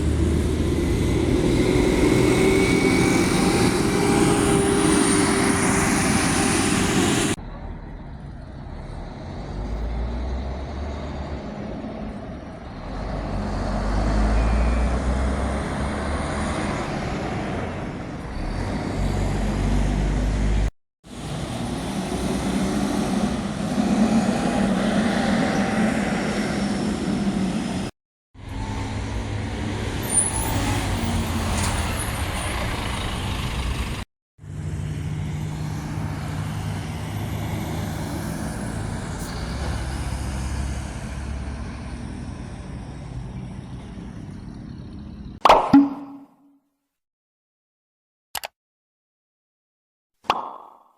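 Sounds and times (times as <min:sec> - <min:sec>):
buses driving past: 0:00.0 - 0:45.4.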